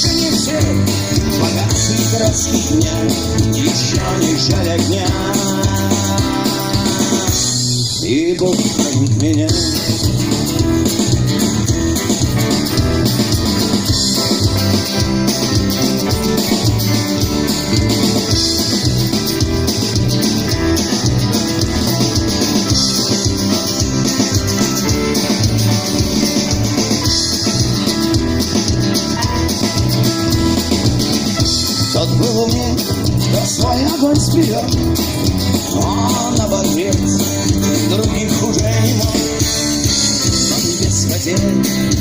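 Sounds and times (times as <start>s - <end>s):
rock band playing: 0.0s - 42.0s.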